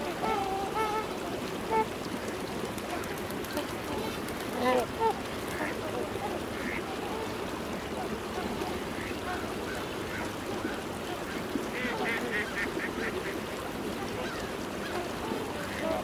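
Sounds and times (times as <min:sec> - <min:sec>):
ducks quacking: 0:00.0 - 0:01.9, 0:02.8 - 0:16.0
swans honking: 0:00.0 - 0:02.2, 0:02.8 - 0:16.0.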